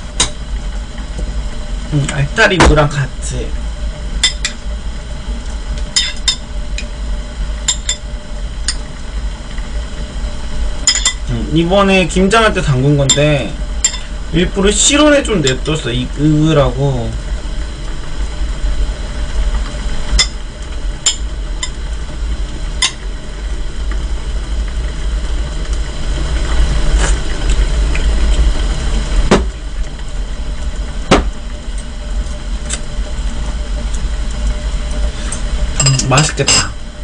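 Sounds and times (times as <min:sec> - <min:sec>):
pot of soup boiling: 0:00.0 - 0:37.0.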